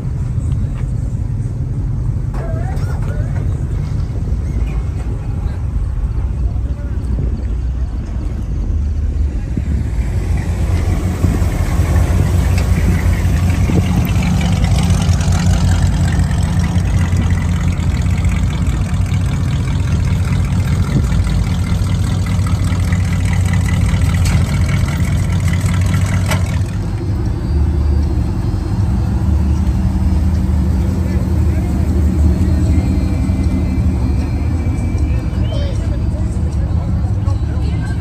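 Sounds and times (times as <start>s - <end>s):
car and truck engines idling: 0.0s - 38.0s.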